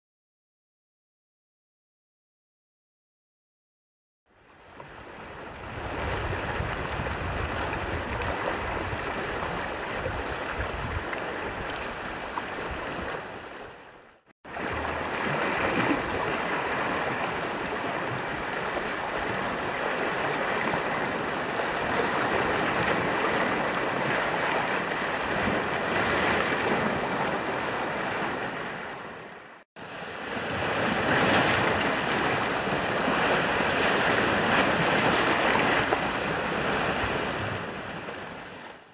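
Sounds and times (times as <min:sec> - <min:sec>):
waves washing against shore: 0:04.6 - 0:38.9.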